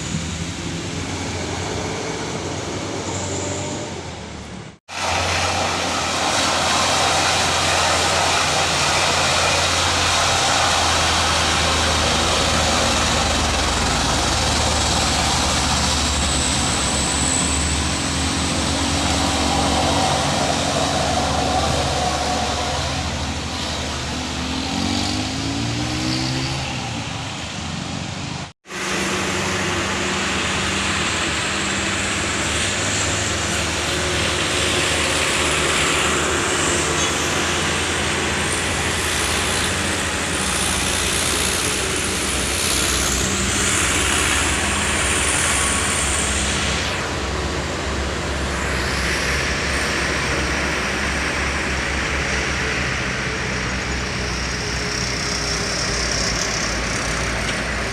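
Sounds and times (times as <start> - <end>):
truck engine under load: 0.0 - 57.9
tyre and road noise: 0.0 - 57.9.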